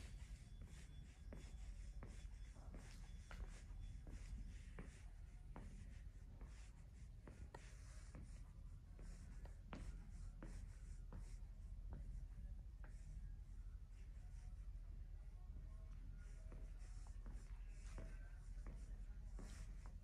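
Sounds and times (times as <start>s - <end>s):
faint footsteps walking: 0.0s - 20.0s
low steady hum: 0.0s - 20.0s.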